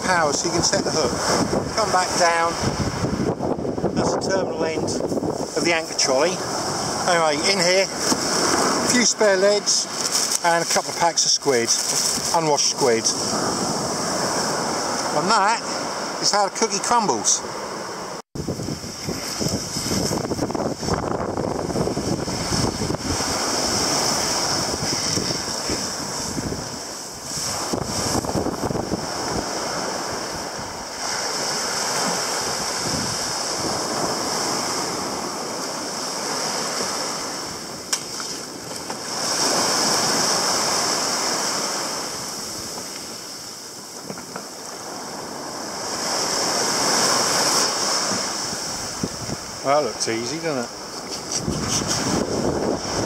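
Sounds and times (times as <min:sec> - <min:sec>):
wind buffeting microphone: 0:00.0 - 0:12.4, 0:18.4 - 0:53.0
small waves washing up beach: 0:00.0 - 0:53.0.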